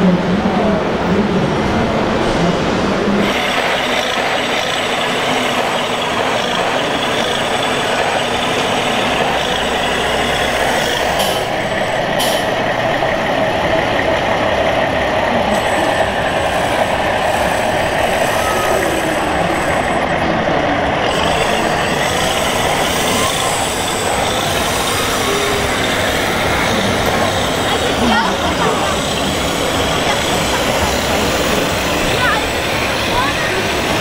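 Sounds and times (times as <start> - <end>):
din of busy exhibition hall: 0.0 - 34.0
model tractor engines running: 3.2 - 34.0.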